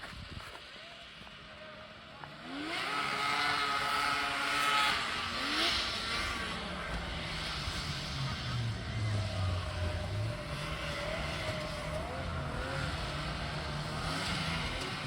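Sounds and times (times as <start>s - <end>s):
vehicle engine revving: 2.2s - 15.0s.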